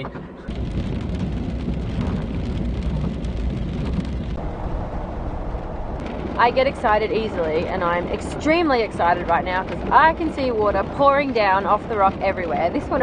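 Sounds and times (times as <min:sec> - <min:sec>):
low continuous rumble: 0:00.0 - 0:13.0
heavy rain: 0:00.5 - 0:13.0.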